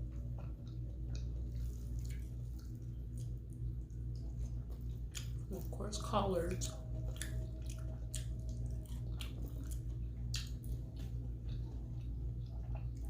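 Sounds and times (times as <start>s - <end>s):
person chewing with wet clicks: 0.0s - 13.0s
steady low hum: 0.0s - 13.0s.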